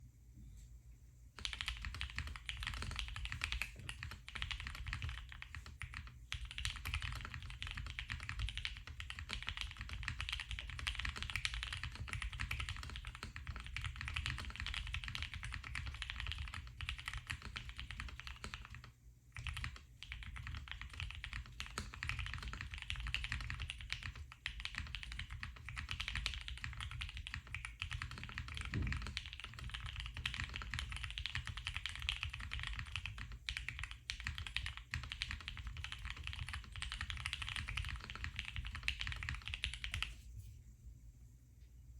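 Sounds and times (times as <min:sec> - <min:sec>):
fast typing on mechanical keyboard: 0:01.4 - 0:40.2.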